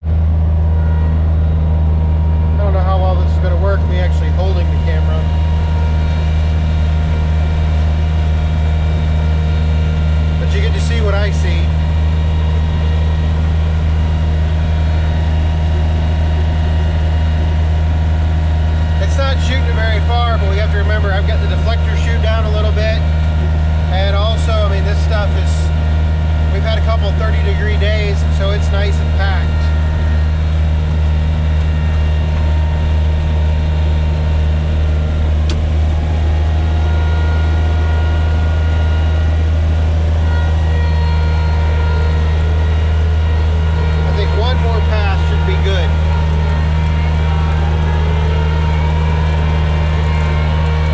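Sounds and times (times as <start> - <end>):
tractor diesel engine running: 0.0 - 50.9
snow blower through packed snow: 1.8 - 50.9.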